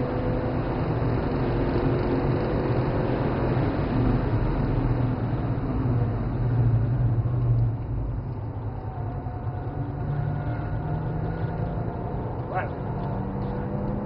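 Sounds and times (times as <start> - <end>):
car engine inside cabin: 0.0 - 14.0
road and wind rumble: 0.0 - 14.0.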